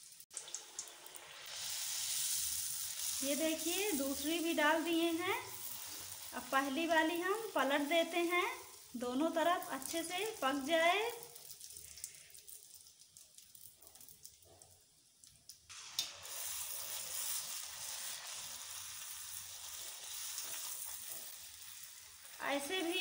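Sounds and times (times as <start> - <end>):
oil sizzling deep-frying: 0.0 - 23.0.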